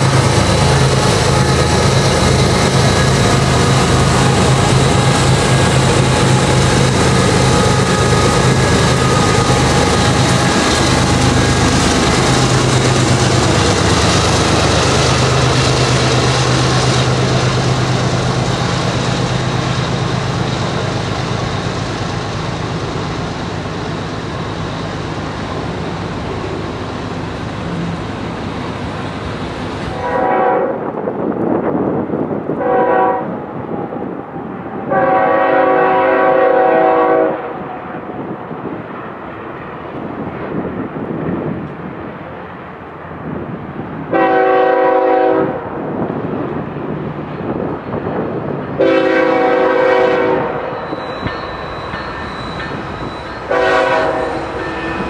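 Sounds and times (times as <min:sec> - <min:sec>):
diesel locomotive engines droning: 0:00.0 - 0:55.0
freight cars rolling on rails: 0:00.0 - 0:55.0.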